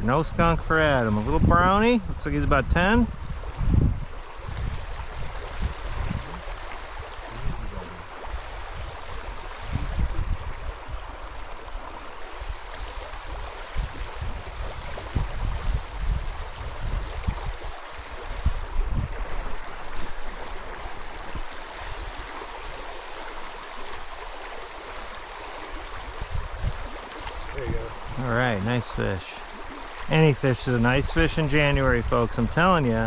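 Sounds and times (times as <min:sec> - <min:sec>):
stream water rushing over riffles: 0:00.0 - 0:33.0.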